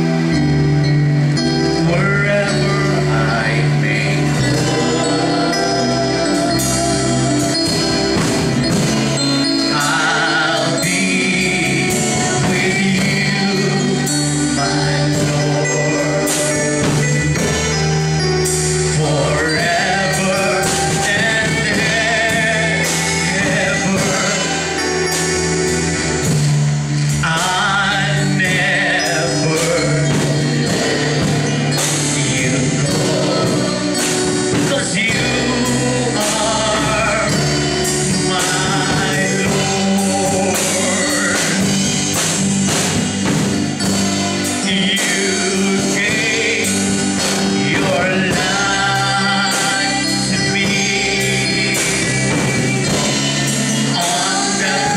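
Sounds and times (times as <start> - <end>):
instrumental accompaniment with beat: 0.0 - 54.9
man singing into microphone: 1.3 - 25.3, 27.1 - 42.1, 43.8 - 54.9.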